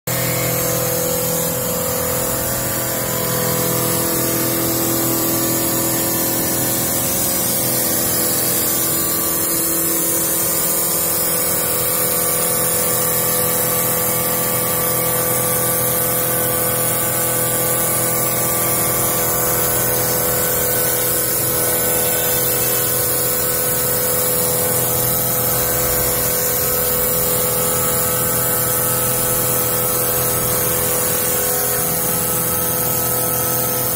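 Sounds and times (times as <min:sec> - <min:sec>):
lathe machine hum: 0:00.1 - 0:33.9.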